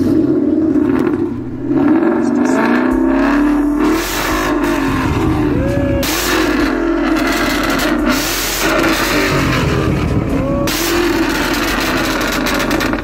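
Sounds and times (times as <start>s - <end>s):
car engine revving hard: 0.0s - 13.0s
exhaust crackling and popping: 0.0s - 13.0s.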